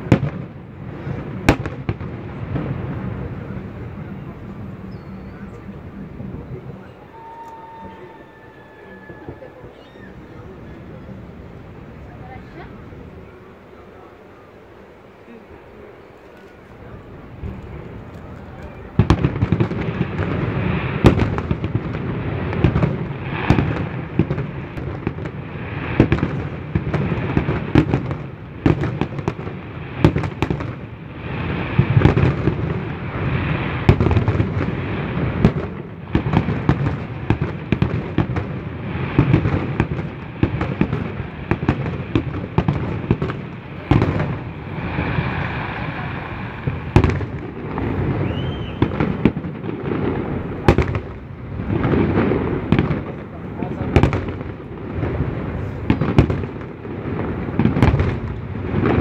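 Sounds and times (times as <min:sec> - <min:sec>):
fireworks booming and banging: 0:00.0 - 0:11.1, 0:16.8 - 0:59.0
fireworks crackling: 0:00.0 - 0:59.0.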